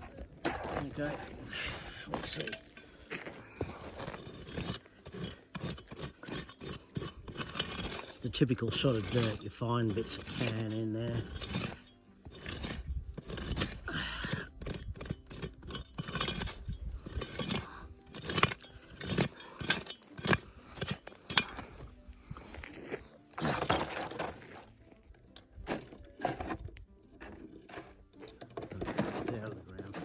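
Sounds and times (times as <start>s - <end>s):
stones and gravel clinking: 0.0s - 30.0s
tool scraping stony dirt: 0.0s - 30.0s.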